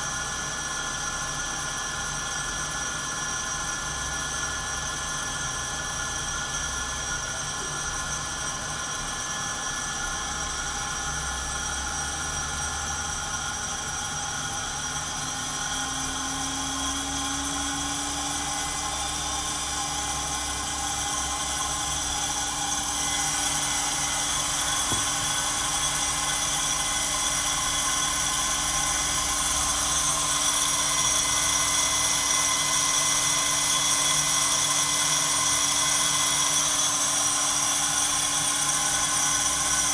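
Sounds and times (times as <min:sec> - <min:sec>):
coffee roaster fan whirring: 0:00.0 - 0:39.9.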